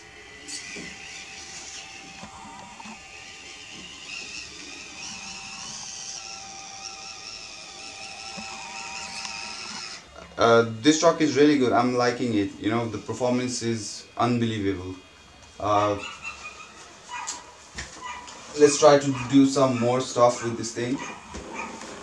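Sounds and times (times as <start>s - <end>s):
toy truck motor whining: 0.0s - 22.0s.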